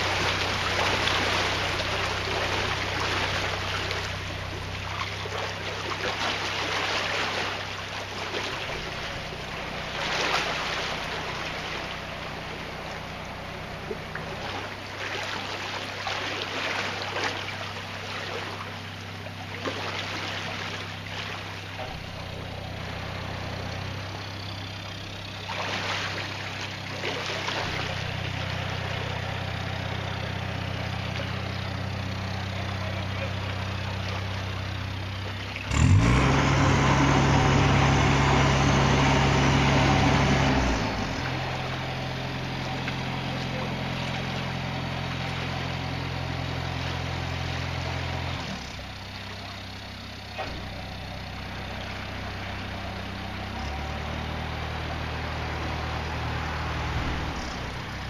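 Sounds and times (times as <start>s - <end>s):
diesel boat engine running: 0.0s - 58.0s
water rushing and churning: 0.0s - 58.0s.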